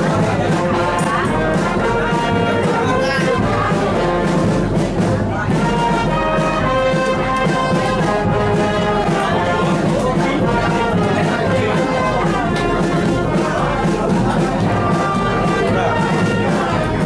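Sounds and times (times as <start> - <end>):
military brass band playing: 0.0 - 17.0.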